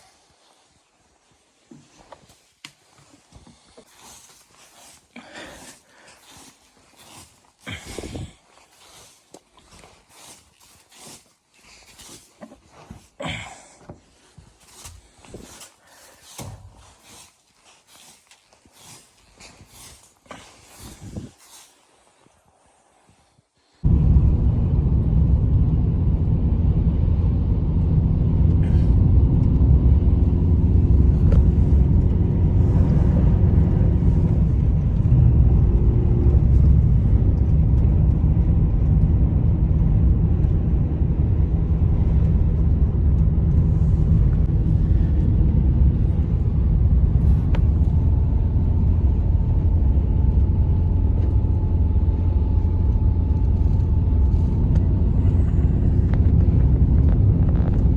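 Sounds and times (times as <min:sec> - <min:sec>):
blizzard wind rumbling: 0:02.9 - 0:57.9.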